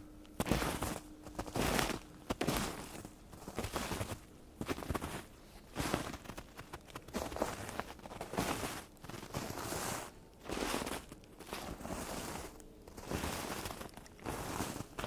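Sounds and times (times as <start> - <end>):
footsteps crunching through snow: 0.4 - 15.0.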